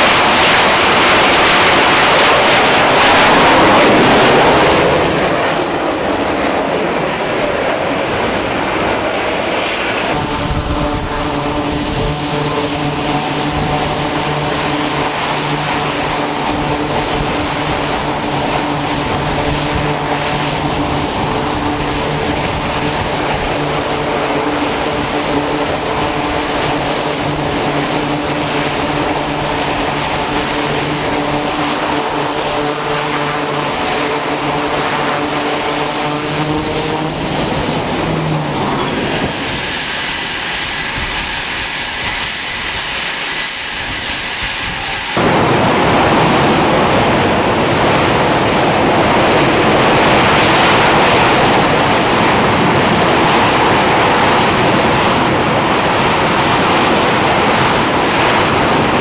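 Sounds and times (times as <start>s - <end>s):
propeller drone: 0.0s - 59.0s
rushing roar: 0.0s - 59.0s.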